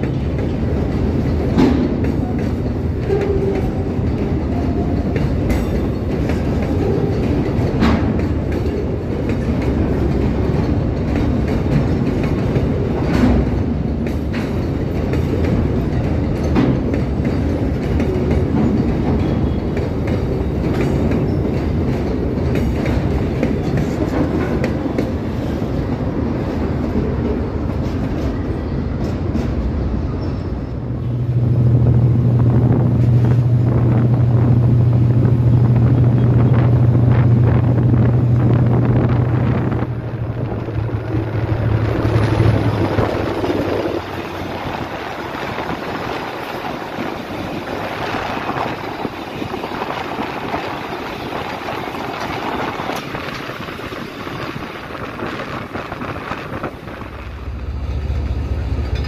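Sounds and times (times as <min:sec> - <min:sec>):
freight train rolling on rails: 0:00.0 - 0:59.0
moving train interior rumble: 0:00.0 - 0:59.0
passenger train passing: 0:00.0 - 0:59.0.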